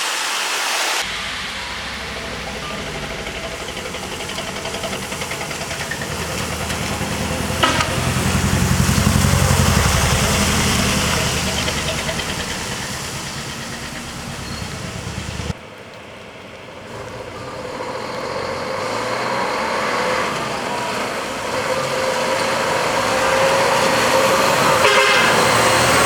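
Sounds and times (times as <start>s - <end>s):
truck diesel engine passing: 1.0s - 26.0s.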